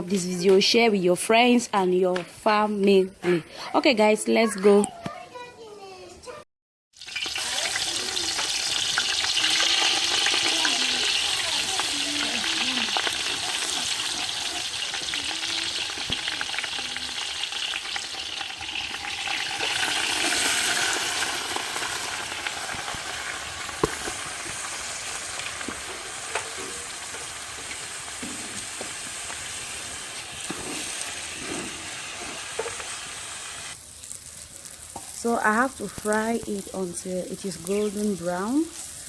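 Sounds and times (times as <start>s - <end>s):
rice sizzling in hot oil: 7.0s - 39.0s.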